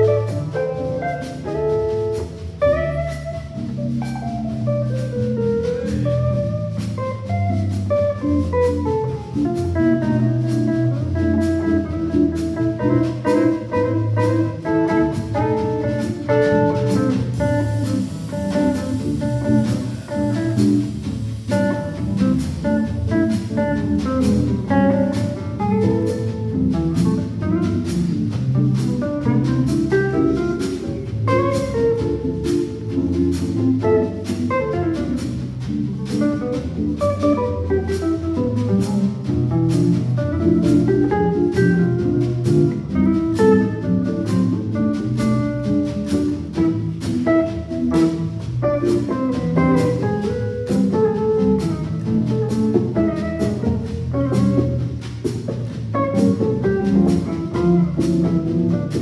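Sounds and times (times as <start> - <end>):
double bass: 0.0 - 59.0
guitar lines: 0.0 - 59.0.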